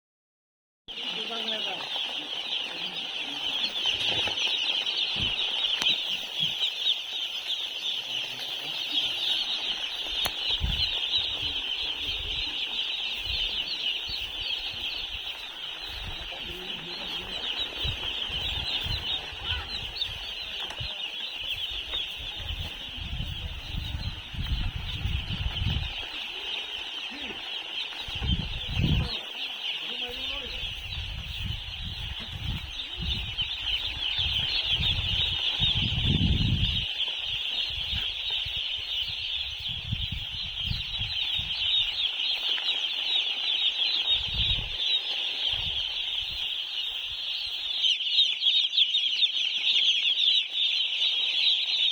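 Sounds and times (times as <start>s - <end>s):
chickens chirping: 0.9s - 51.9s.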